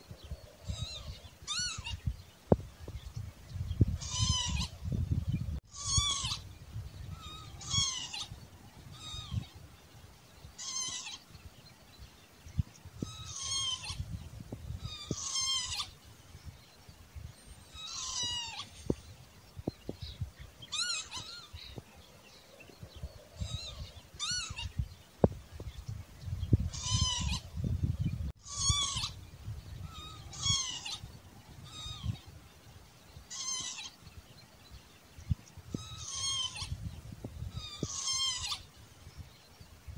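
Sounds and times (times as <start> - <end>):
lapwing calling: 0.3 - 2.2, 3.8 - 9.7, 10.5 - 11.4, 12.6 - 16.1, 17.5 - 32.4, 33.1 - 34.2, 35.2 - 39.2.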